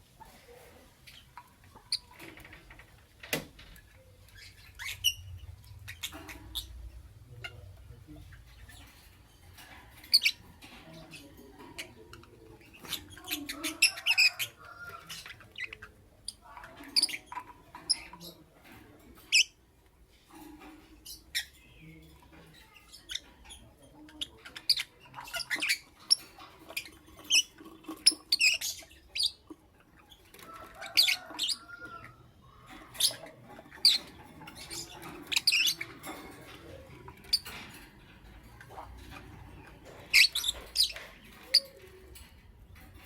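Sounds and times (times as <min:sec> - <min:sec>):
lovebirds chirping: 0:03.6 - 0:18.5, 0:19.3 - 0:43.0.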